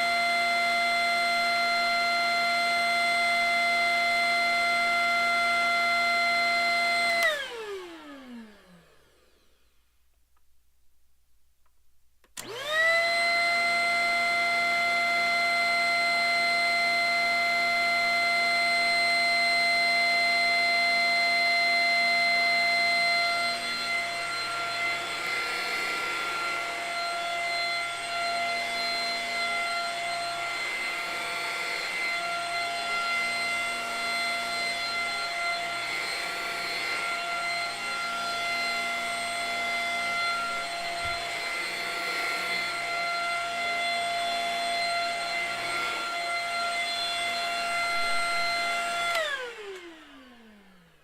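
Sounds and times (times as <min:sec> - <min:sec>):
vacuum cleaner running: 0:00.0 - 0:10.0, 0:12.3 - 0:51.0.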